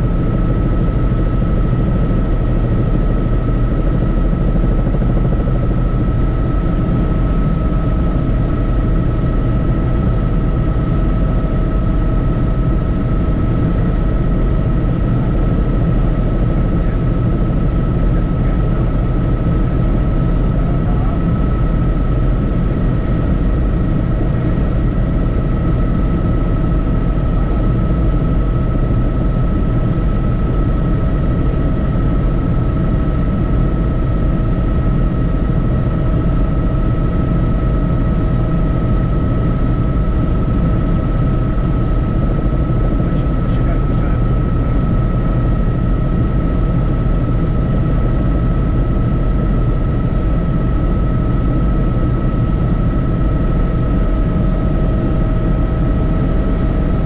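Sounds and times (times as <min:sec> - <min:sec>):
constant high whine: 0:00.0 - 0:57.0
helicopter rotor and engine drone: 0:00.0 - 0:57.0.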